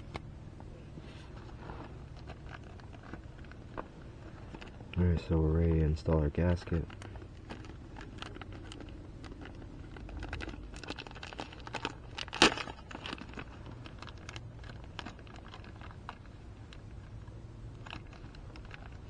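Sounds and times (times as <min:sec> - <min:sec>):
packaging crinkling and rustling: 0:01.1 - 0:19.0.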